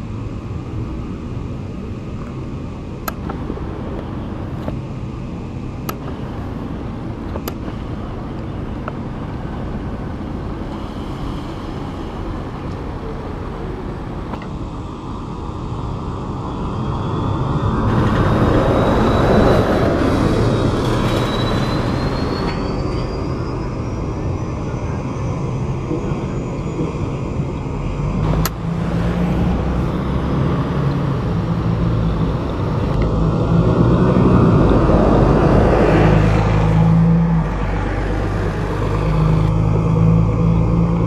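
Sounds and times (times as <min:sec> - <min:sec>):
bus engine droning: 0:00.0 - 0:41.0
electric bus drive whine: 0:00.0 - 0:41.0
tyre and engine noise: 0:00.0 - 0:41.0.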